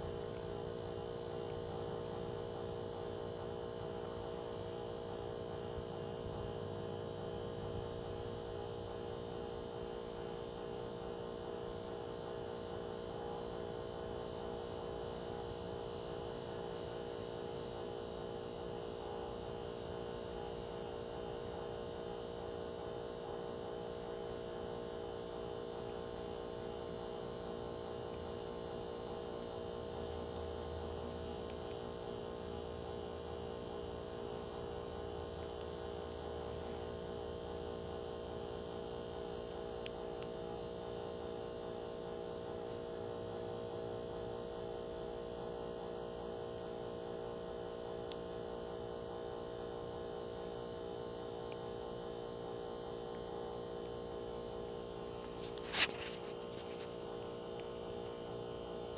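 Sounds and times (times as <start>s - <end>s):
steady multi-tone hum: 0.0s - 58.9s.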